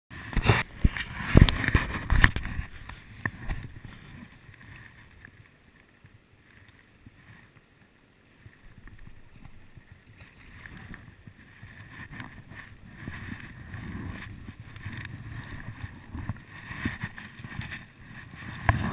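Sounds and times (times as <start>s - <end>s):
wind on microphone: 0.1s - 5.3s, 8.4s - 18.9s.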